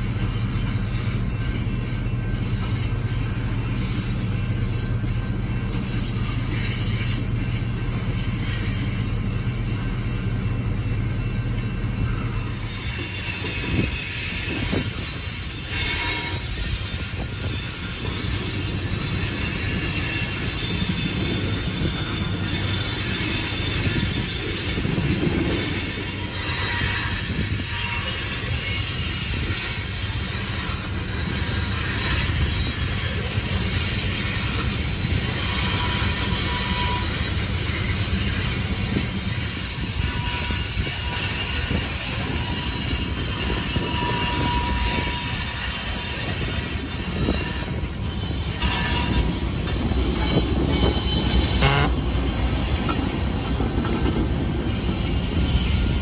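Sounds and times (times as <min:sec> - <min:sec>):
train wheels rumbling on rails: 0:00.0 - 0:56.0
wheels squealing on rails: 0:00.0 - 0:56.0.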